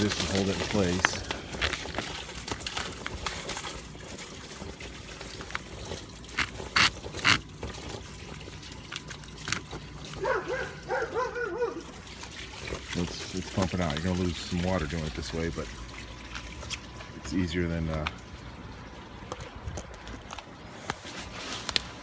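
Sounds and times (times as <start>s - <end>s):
water trickling from hose: 0.0s - 22.0s.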